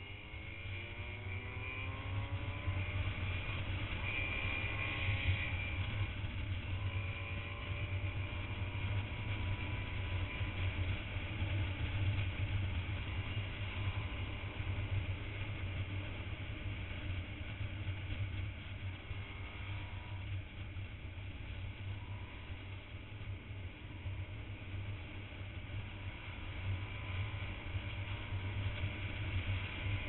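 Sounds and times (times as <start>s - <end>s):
motorcycle engine drone: 0.0s - 30.0s.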